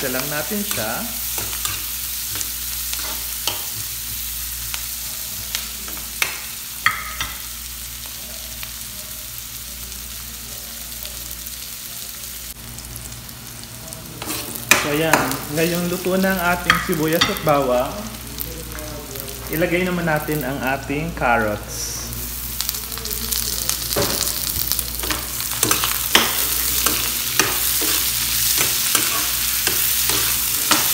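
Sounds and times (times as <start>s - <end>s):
food sizzling in hot oil: 0.0s - 30.9s.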